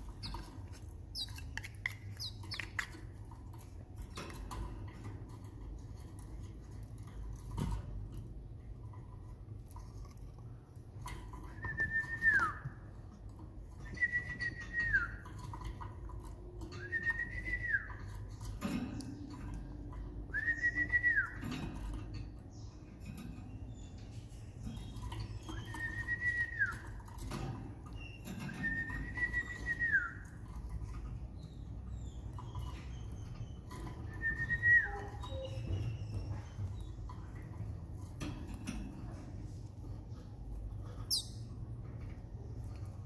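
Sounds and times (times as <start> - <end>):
canaries chirping: 0.0 - 11.7, 12.6 - 17.0, 17.8 - 43.0.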